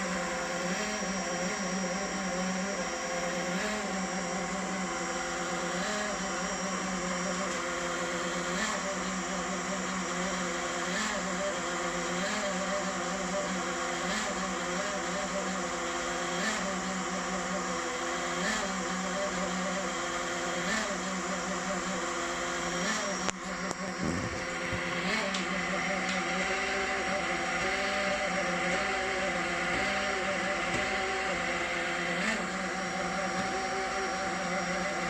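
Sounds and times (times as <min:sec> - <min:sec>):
fan whirring drone: 0:00.0 - 0:35.0.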